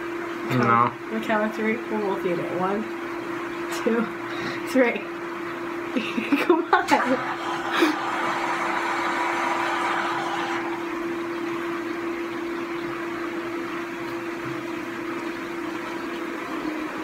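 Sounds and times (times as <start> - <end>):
appliance humming and whirring: 0.0 - 17.0.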